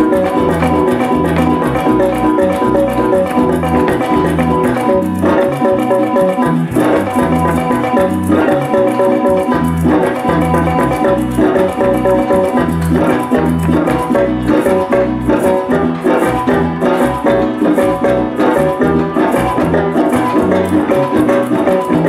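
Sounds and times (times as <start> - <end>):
bass line: 0.0 - 22.0
cuatro plucked tune: 0.0 - 22.0
maraca rhythm: 0.0 - 22.0.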